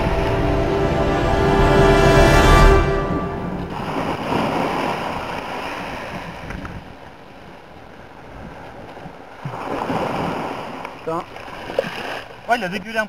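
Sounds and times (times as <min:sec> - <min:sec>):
waves washing: 0:00.0 - 0:12.6.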